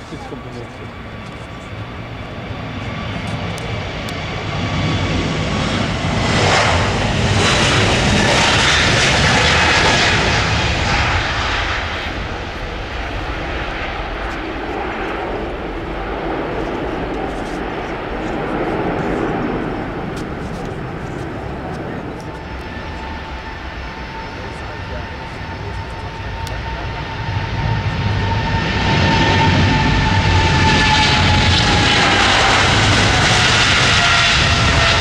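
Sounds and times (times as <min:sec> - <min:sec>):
jet engines passing close: 0:00.0 - 0:35.0.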